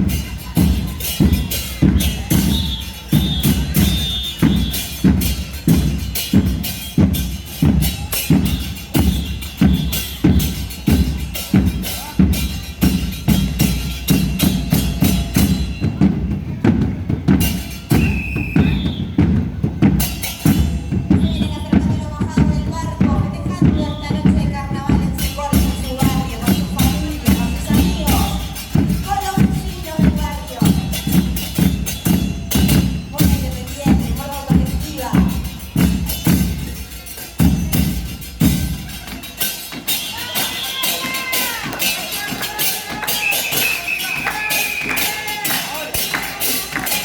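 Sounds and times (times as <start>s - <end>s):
bass drums and snare rhythm: 0.0s - 47.0s.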